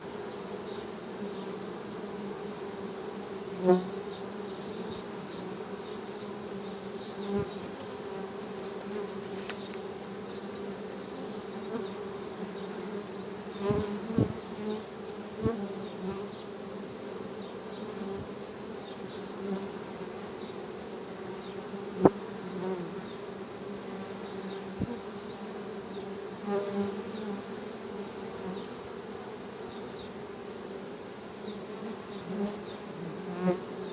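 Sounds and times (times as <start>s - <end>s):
honey bees buzzing: 0.0s - 33.9s.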